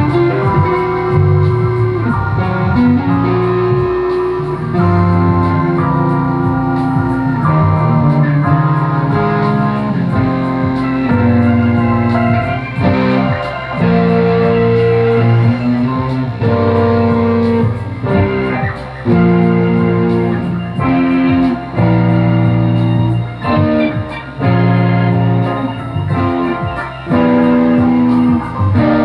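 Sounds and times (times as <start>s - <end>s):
guitar chords: 0.0s - 29.0s.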